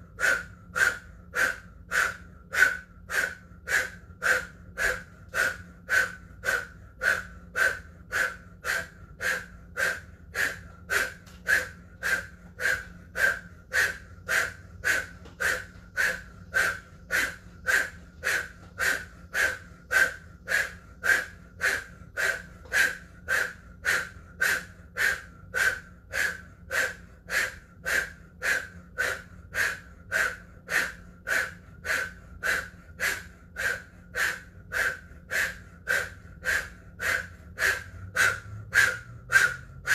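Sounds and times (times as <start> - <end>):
forceful rhythmic breathing: 0.0 - 39.9.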